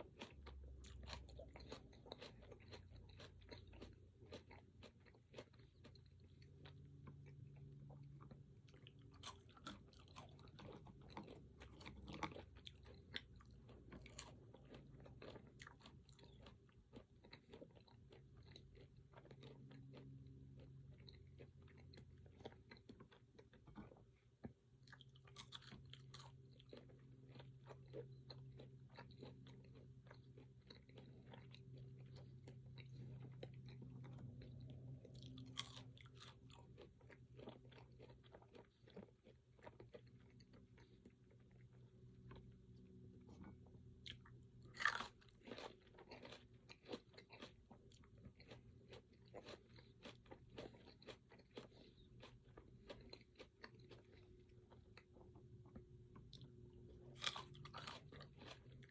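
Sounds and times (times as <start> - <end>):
chewing and crunching: 0.0 - 58.9
faint low hum: 0.0 - 58.9.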